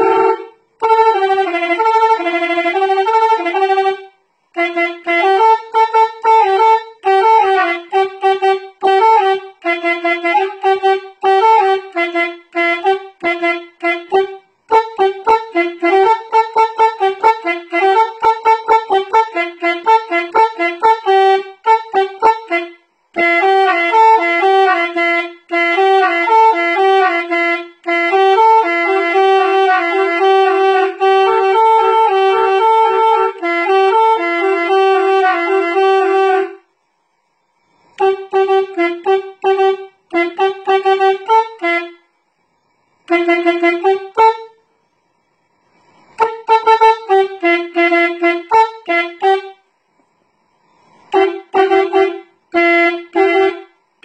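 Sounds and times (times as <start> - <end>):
wind instrument melody: 0.0 - 36.7, 37.6 - 42.1, 42.7 - 44.6, 45.5 - 49.6, 50.4 - 54.0.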